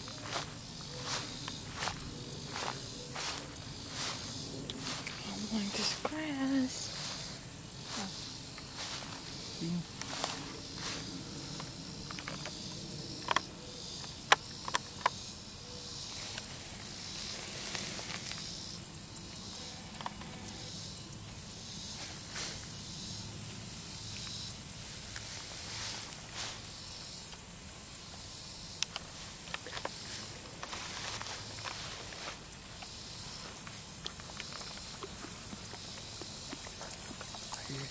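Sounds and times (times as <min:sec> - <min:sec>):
high-pitched outdoor hiss: 0:00.0 - 0:37.9.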